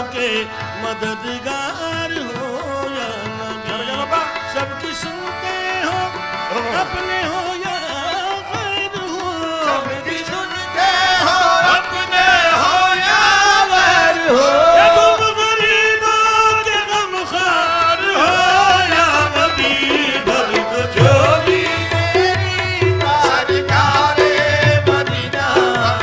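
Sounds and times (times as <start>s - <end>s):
man singing ornamented phrases: 0.0s - 26.0s.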